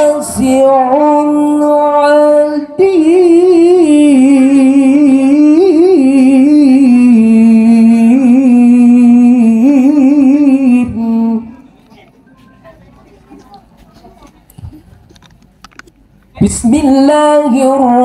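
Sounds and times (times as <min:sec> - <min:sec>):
person reciting melodically: 0:00.0 - 0:12.8, 0:16.2 - 0:18.0.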